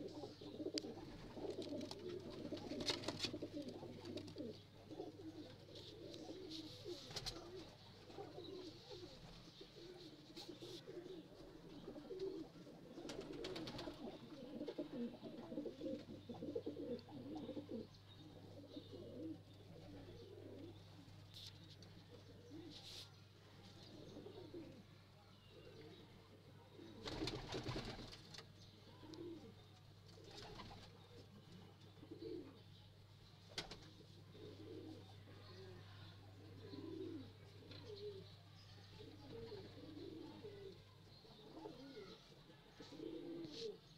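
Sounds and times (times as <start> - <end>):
pigeons cooing: 0.0 - 21.2, 22.0 - 22.9, 23.8 - 24.9, 25.5 - 28.2, 29.0 - 29.6, 30.2 - 32.7, 33.6 - 38.4, 39.0 - 43.9.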